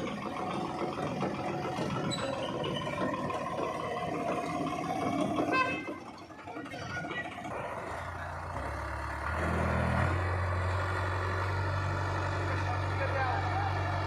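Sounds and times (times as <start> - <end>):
heavy vehicle engine droning: 0.0 - 14.0.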